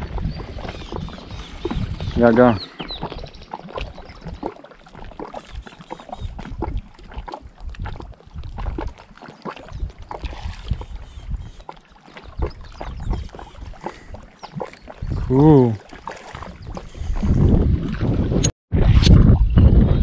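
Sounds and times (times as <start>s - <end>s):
water slapping against boat hull: 0.0s - 18.5s.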